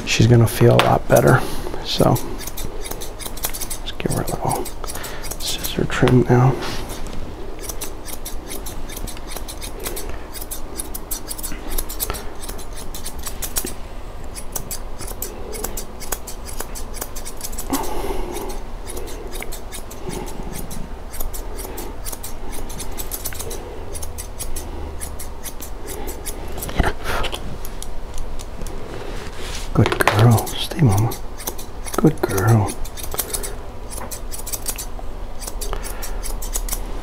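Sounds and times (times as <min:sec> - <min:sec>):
shears snipping fur: 0:00.6 - 0:37.0.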